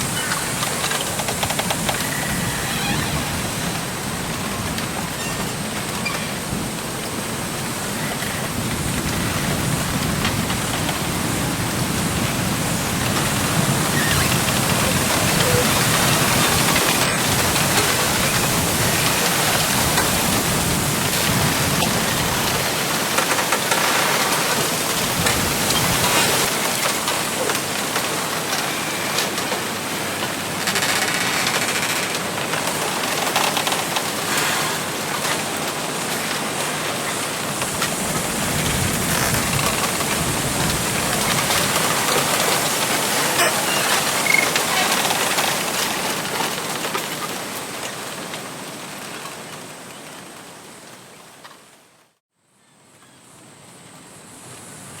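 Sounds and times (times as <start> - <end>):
wind rustling bamboo leaves: 0.0 - 55.0.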